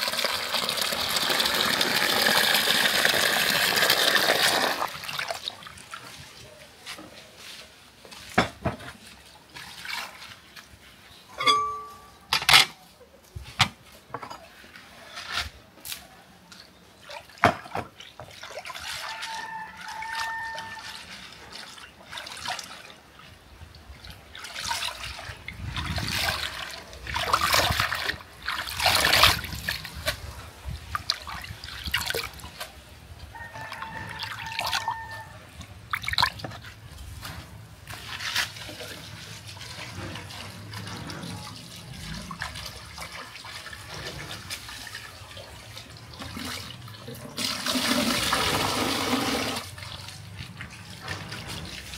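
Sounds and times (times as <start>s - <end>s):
water splashing and dripping: 0.0s - 11.2s, 15.8s - 51.9s.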